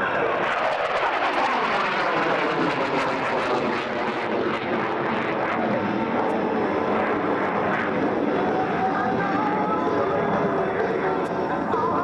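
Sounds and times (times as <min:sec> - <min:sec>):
jet engine roar in afterburner: 0:00.0 - 0:12.0.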